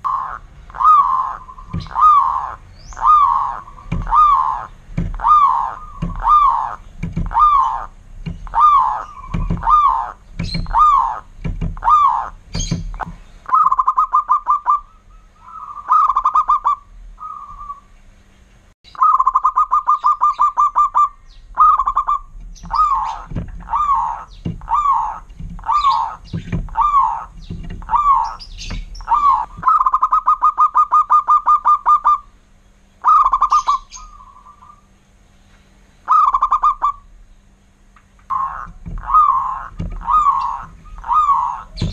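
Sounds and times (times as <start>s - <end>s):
dove cooing and trilling: 0.0s - 17.9s, 19.0s - 32.3s, 33.0s - 34.9s, 36.0s - 37.1s, 38.3s - 41.9s.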